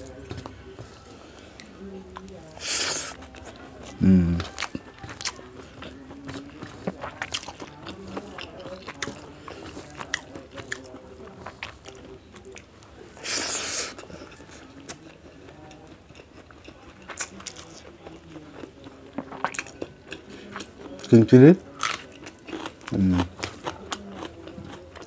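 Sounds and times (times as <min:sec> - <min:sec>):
person chewing with wet clicks: 0:01.4 - 0:25.0.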